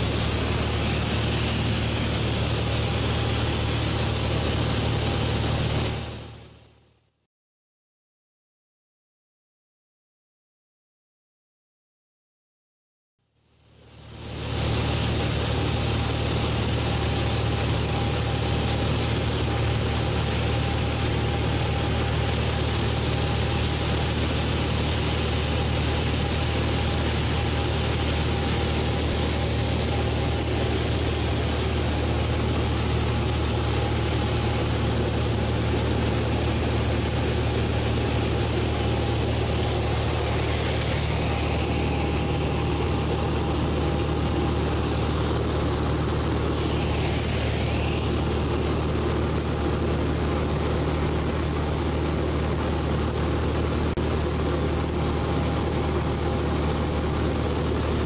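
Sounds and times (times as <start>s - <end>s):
aircraft engine and propeller droning: 0.0s - 6.6s, 13.7s - 58.0s.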